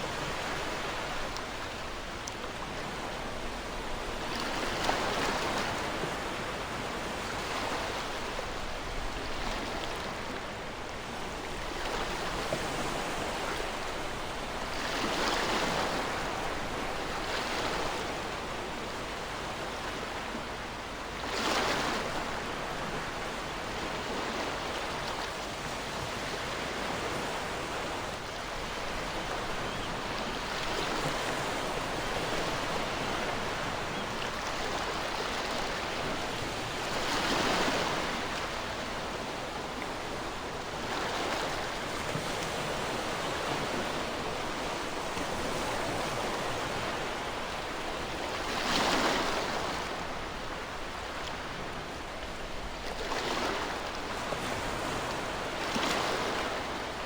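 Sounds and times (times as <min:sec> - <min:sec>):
ocean waves washing on shore: 0:00.0 - 0:57.0.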